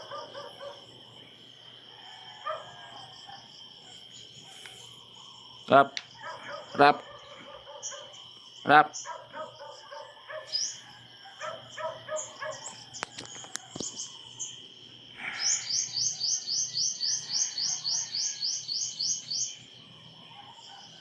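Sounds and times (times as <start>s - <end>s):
birds chirping: 0.0s - 21.0s
high insect drone: 0.0s - 21.0s.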